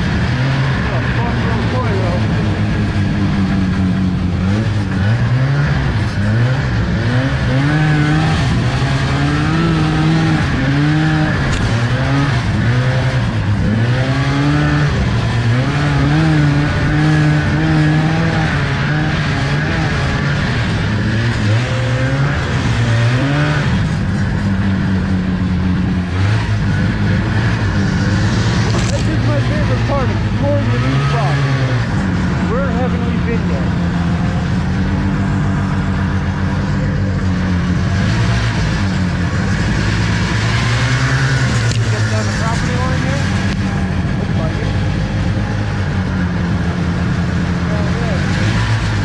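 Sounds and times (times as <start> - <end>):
snowmobile two-stroke engine revving: 0.0 - 49.0.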